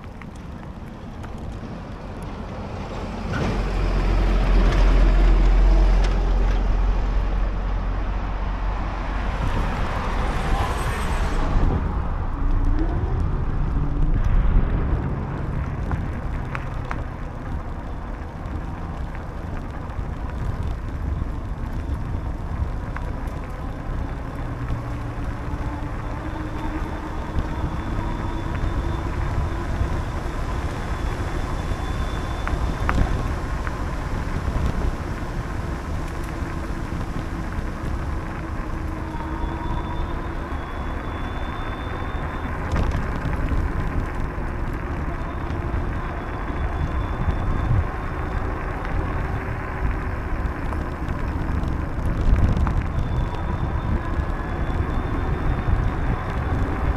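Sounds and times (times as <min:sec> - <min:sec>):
bicycle tyres rolling on pavement: 0:00.0 - 0:56.9
wind buffeting microphone: 0:00.0 - 0:56.9.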